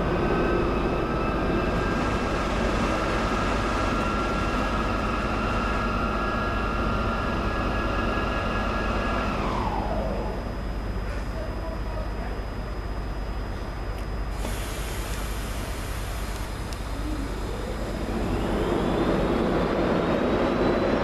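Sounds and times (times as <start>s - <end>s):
freight train rumble: 0.0s - 12.7s, 13.4s - 21.0s
high train whine: 0.0s - 21.0s.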